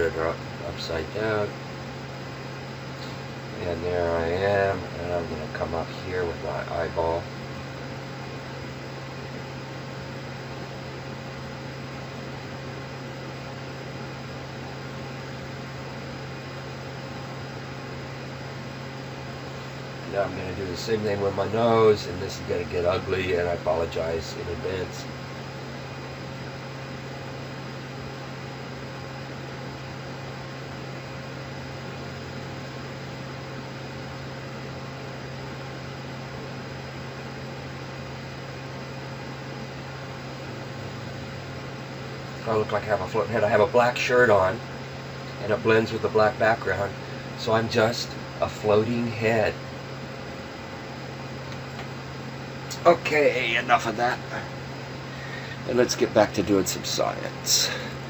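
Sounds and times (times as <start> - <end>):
constant low hum: 0.0 - 58.0
ventilation fans hissing: 0.0 - 58.0.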